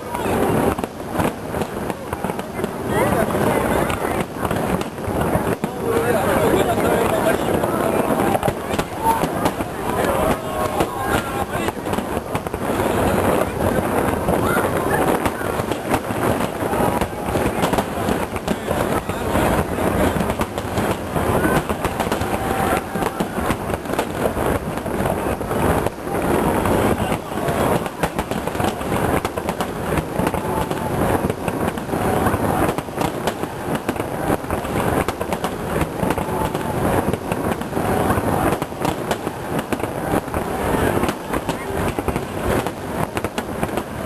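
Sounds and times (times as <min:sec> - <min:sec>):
fireworks booming and crackling: 0:00.0 - 0:44.0.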